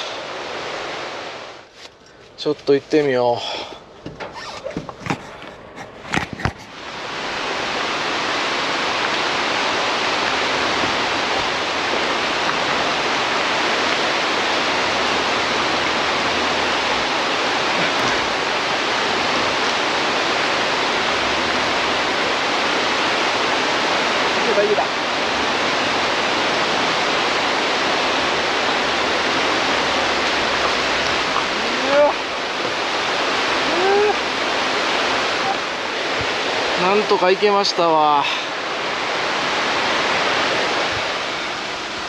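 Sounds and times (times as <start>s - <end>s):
water rushing: 0.0s - 1.8s, 2.4s - 42.0s.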